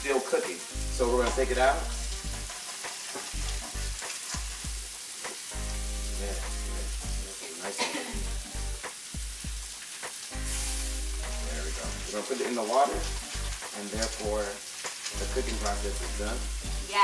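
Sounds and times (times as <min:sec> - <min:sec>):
chicken sizzling in skillet: 0:00.0 - 0:17.0.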